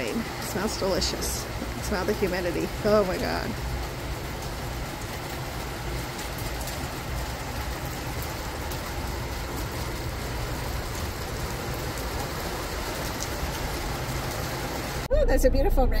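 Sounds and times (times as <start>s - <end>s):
heavy rain on pavement: 0.0s - 15.1s.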